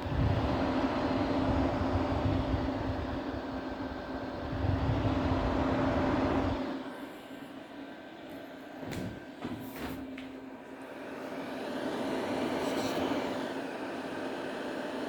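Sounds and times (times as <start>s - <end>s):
projector cooling fan whirring: 0.0s - 15.0s.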